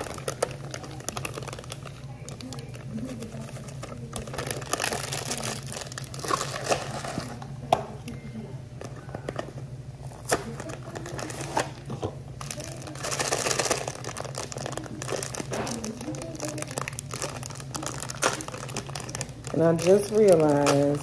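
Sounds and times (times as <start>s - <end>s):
plastic bag crinkling: 0.0s - 7.5s, 8.8s - 21.0s
steady low hum: 0.0s - 21.0s.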